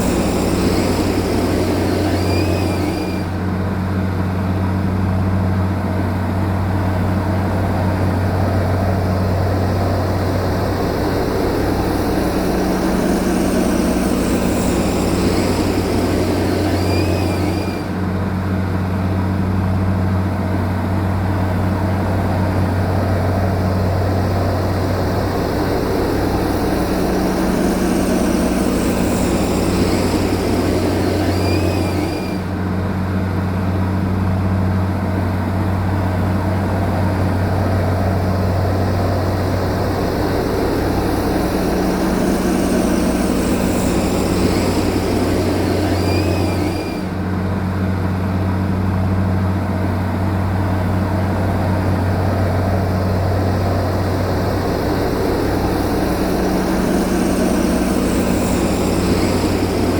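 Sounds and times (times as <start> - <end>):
heavy machine engine humming: 0.0 - 59.9.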